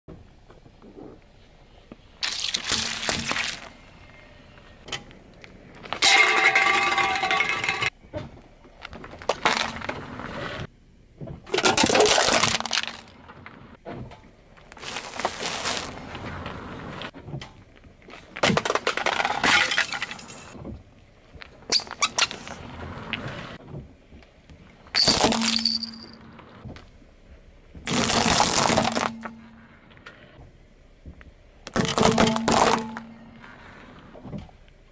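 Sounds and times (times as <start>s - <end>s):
car tyre crunching plastic and metal: 2.2s - 4.2s, 4.8s - 30.4s, 31.0s - 34.9s.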